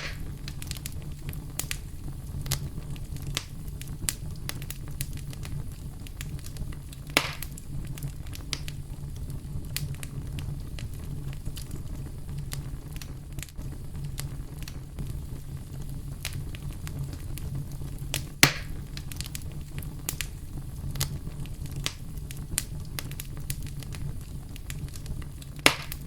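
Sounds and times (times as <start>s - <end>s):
campfire crackling: 0.0s - 26.0s
sharp pops of fire: 0.0s - 26.0s.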